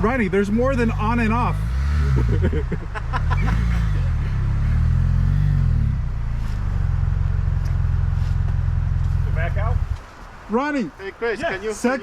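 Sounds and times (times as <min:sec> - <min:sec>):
motorcycle engine revving and idling: 0:00.0 - 0:10.2.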